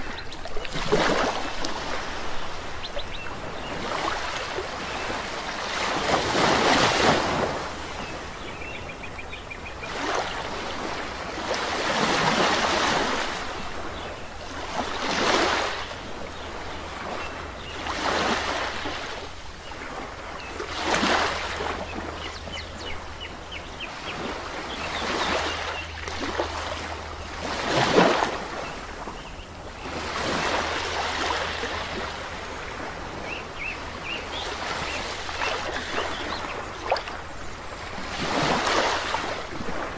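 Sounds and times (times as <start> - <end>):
small sea waves breaking: 0.0 - 8.8, 9.8 - 39.9.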